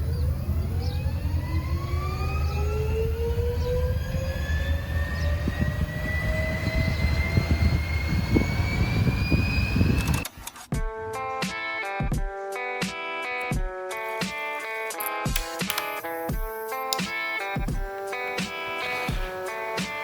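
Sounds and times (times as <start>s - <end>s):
model engine whine rising: 0.0s - 10.3s, 14.0s - 20.0s.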